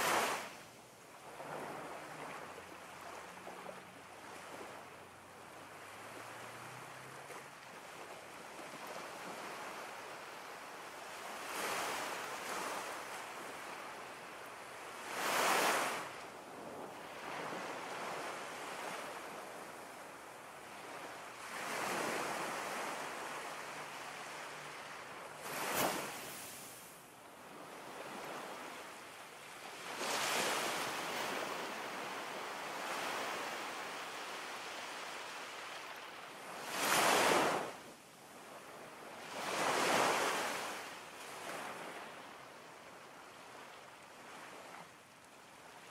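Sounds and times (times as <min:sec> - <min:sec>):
ocean waves: 0:00.0 - 0:45.9.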